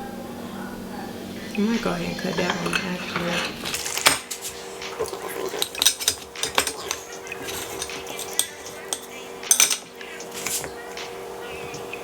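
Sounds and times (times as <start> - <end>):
metal utensils clinking on dishes: 0.5 - 12.0.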